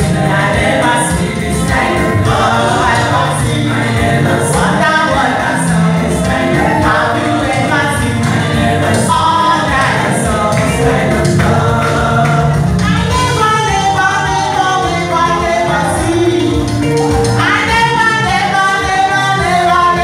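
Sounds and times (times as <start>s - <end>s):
voices singing along: 0.0s - 20.0s
woman singing into microphone: 0.0s - 20.0s.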